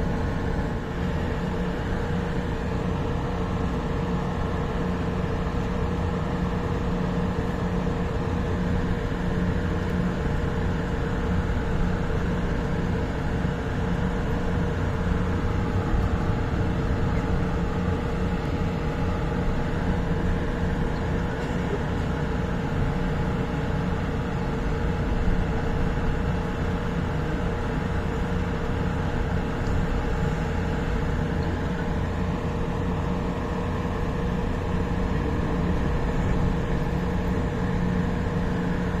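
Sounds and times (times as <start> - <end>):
train rumbling and humming: 0.0 - 39.0.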